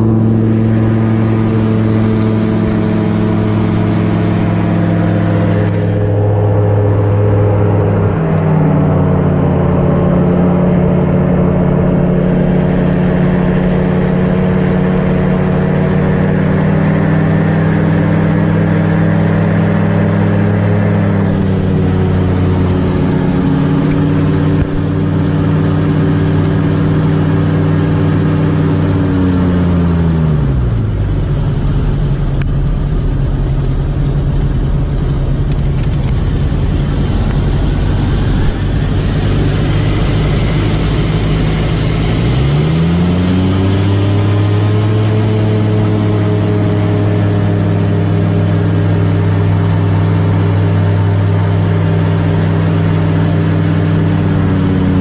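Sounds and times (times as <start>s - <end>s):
light aircraft propeller engine: 0.0s - 55.0s.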